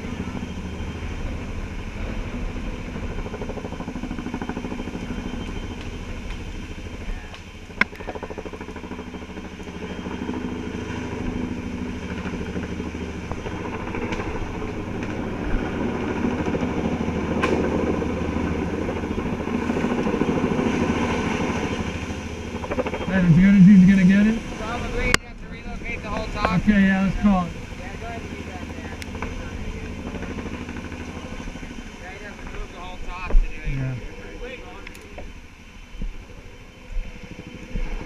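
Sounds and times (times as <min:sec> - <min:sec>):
helicopter rotor noise: 0:00.0 - 0:38.0.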